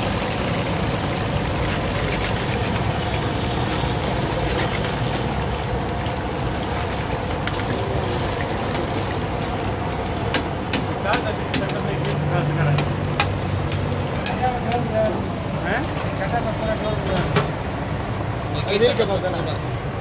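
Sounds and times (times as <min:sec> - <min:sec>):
oil sizzling and bubbling: 0:00.0 - 0:20.0.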